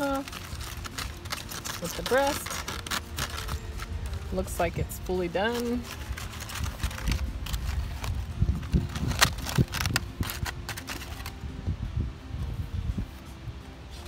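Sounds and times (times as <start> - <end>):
aluminium foil crinkling: 0.0 - 11.4
wind rumble on microphone: 0.0 - 14.0.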